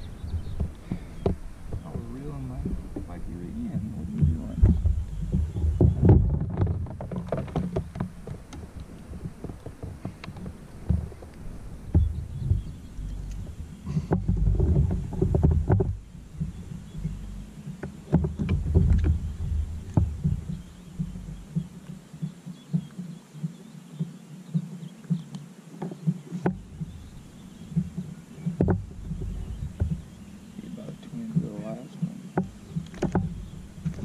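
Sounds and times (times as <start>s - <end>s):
waves slapping against kayak hull: 0.0s - 34.0s
wind rumbling on microphone: 0.0s - 34.0s.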